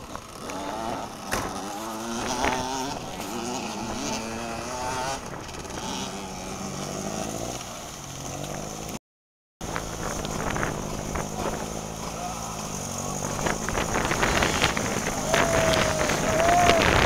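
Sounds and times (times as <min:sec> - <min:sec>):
engine revving under load: 0:00.0 - 0:09.0, 0:09.6 - 0:17.0.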